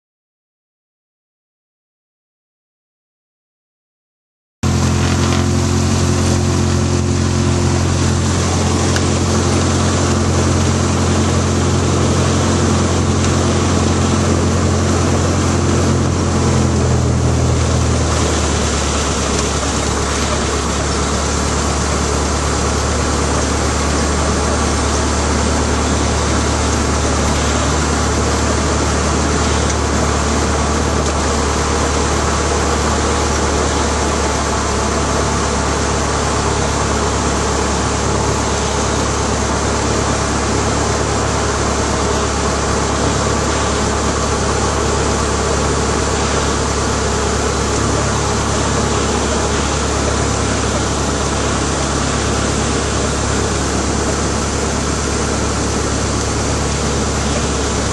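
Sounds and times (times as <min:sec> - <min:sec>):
light aircraft engine droning: 0:04.7 - 0:57.9.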